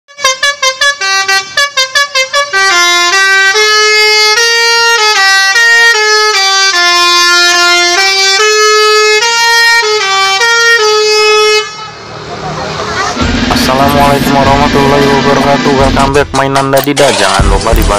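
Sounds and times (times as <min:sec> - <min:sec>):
musical bus horn melody: 0:00.1 - 0:16.6.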